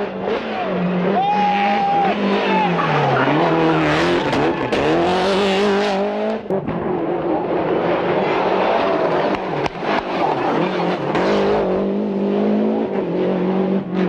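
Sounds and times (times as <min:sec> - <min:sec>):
car engine at steady high pitch: 0:00.0 - 0:14.0
rally car engine accelerating: 0:00.0 - 0:14.0.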